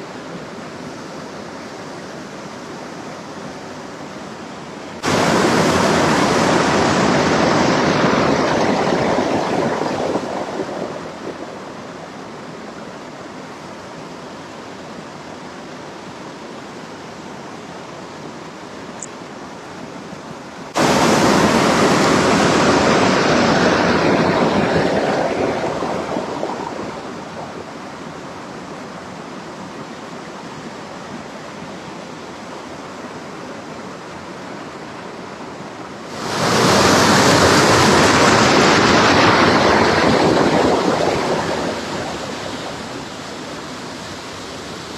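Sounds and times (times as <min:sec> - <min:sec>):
stream rushing over waterfall: 0:00.0 - 0:44.9.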